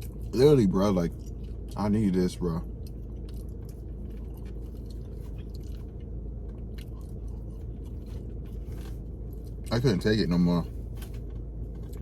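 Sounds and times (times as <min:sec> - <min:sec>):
steady low hum: 0:00.0 - 0:12.0
person chewing food: 0:01.1 - 0:09.8, 0:10.6 - 0:12.0.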